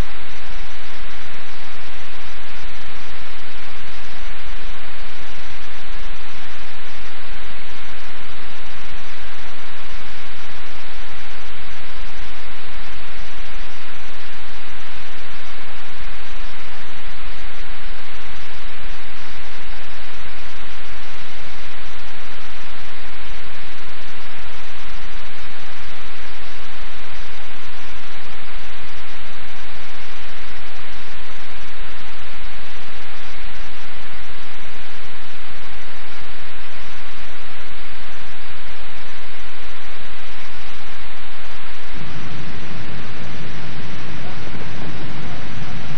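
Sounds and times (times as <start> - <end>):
loud static hiss: 0.0 - 45.9.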